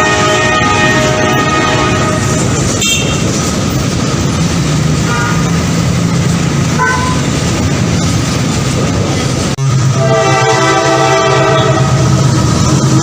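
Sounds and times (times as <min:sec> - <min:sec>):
train rolling on track: 0:00.0 - 0:13.0.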